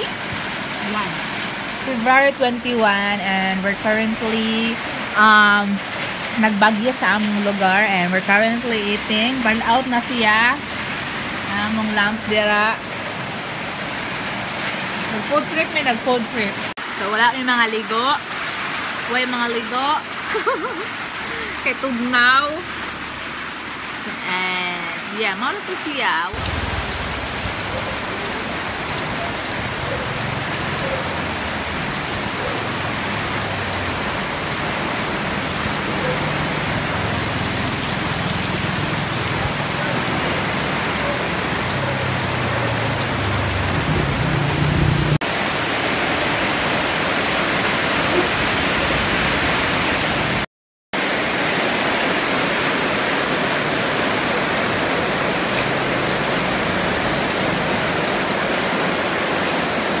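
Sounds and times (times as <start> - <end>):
heavy rain pouring: 0.0 - 60.0.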